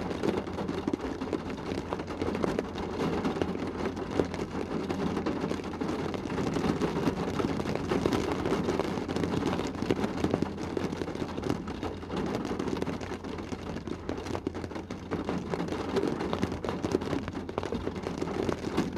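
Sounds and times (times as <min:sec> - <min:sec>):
rain drumming on a car roof: 0:00.0 - 0:18.9.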